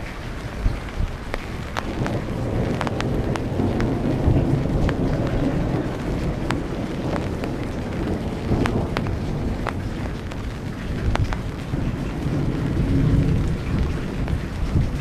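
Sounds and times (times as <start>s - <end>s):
low thunder rumble: 0.0s - 15.0s
raindrops ticking: 0.0s - 15.0s.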